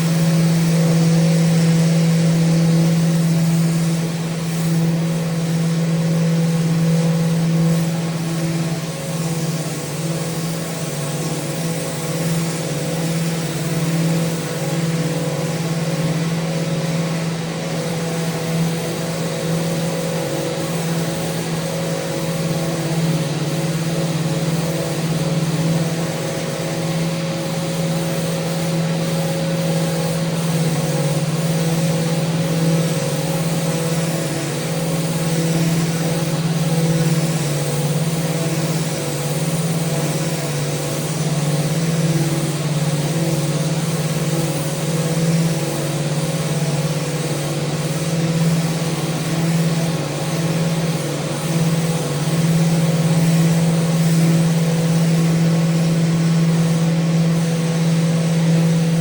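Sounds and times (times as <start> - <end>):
electric sander on wood: 0.0 - 59.0.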